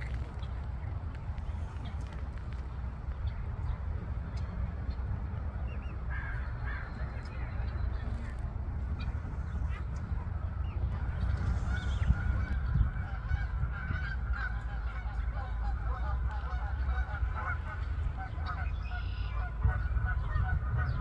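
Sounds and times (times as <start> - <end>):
geese calling: 0.0 - 21.0
steady low rumble: 0.0 - 21.0.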